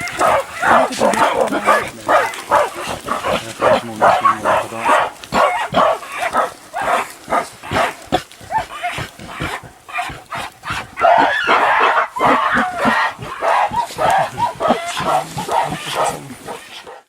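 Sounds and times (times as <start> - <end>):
gorilla calls: 0.0 - 17.0.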